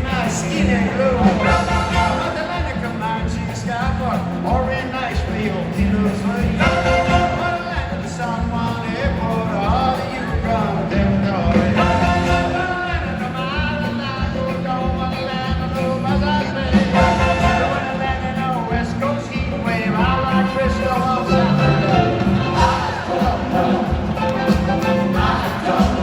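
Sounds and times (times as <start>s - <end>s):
live band music: 0.0s - 26.0s
steady drum beat: 0.0s - 26.0s.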